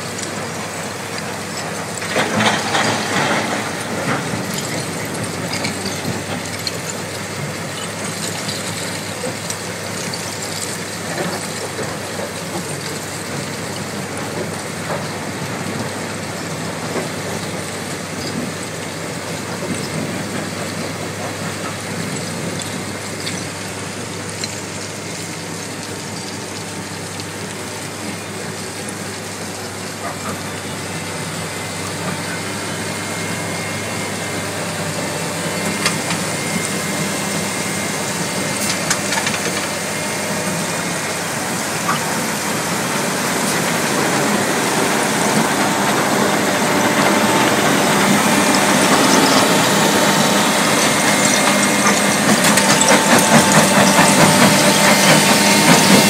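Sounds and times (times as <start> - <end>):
diesel engine drone: 0.0 - 56.0
rubble pouring off conveyor: 0.1 - 56.0.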